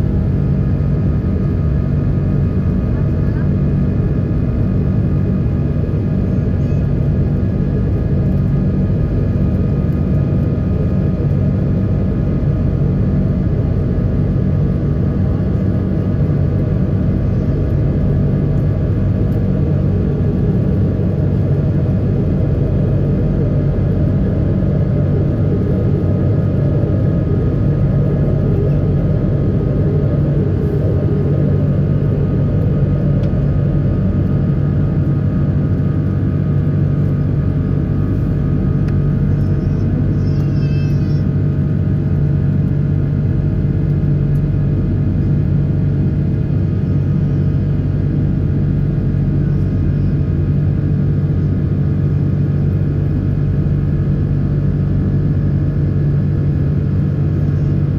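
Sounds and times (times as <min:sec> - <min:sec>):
aircraft cabin engine drone: 0:00.0 - 0:57.9
low hum: 0:00.0 - 0:57.9.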